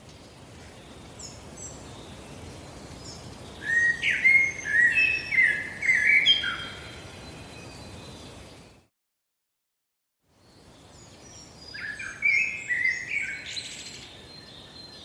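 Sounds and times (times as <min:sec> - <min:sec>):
steady background hiss: 0:00.0 - 0:08.9, 0:10.3 - 0:15.0
bird chirping: 0:00.6 - 0:08.9, 0:10.3 - 0:15.0.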